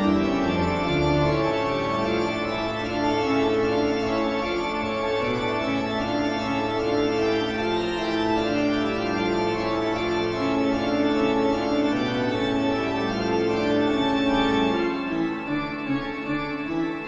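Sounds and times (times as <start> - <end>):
spooky organ chords: 0.0 - 17.0.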